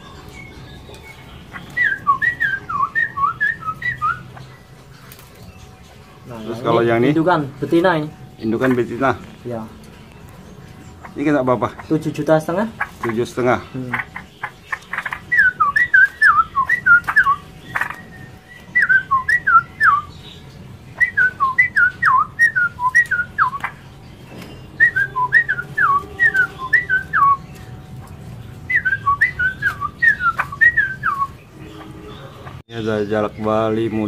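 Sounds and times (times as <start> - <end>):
bird singing whistled notes: 0.0 - 12.8, 13.6 - 34.0.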